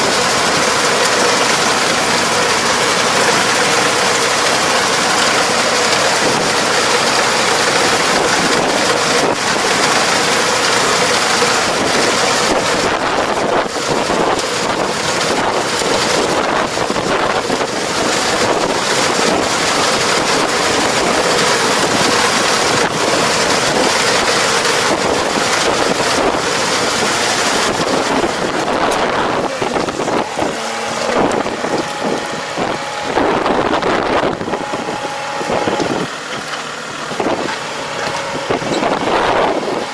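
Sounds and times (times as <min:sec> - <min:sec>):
large machine engine running: 0:00.0 - 0:39.9
steady tones: 0:00.0 - 0:39.9.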